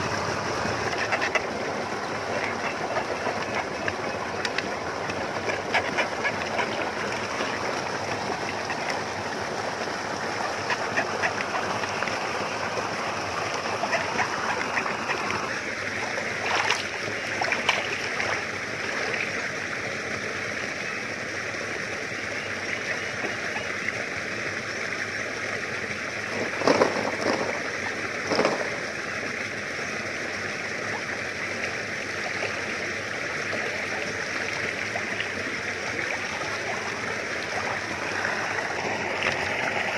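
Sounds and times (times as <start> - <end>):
flowing water rushing: 0.0 - 39.9
water splashes: 0.0 - 39.9.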